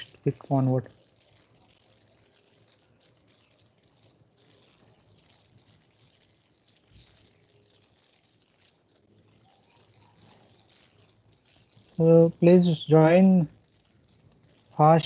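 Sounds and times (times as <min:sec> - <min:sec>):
light hiss: 0:00.0 - 0:15.0.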